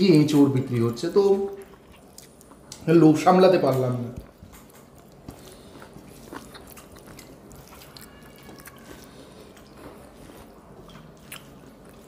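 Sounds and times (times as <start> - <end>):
food squishing by hand: 0.0 - 12.0
soft chewing: 0.1 - 3.0, 3.6 - 12.0.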